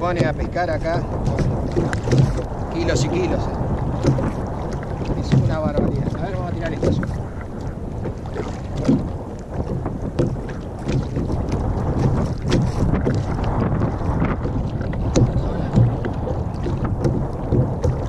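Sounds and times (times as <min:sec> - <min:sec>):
waves slapping kayak hull: 0:00.0 - 0:18.0
wind buffeting microphone: 0:00.0 - 0:18.0.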